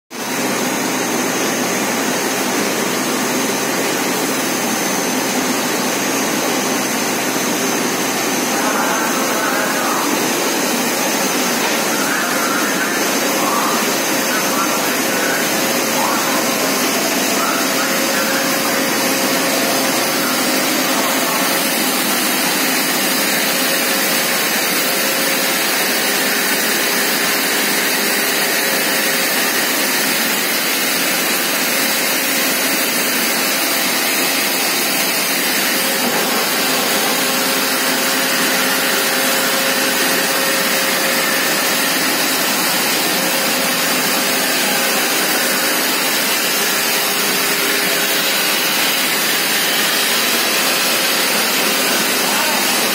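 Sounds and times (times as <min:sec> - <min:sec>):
machine whirring and hissing: 0:00.3 - 0:52.9.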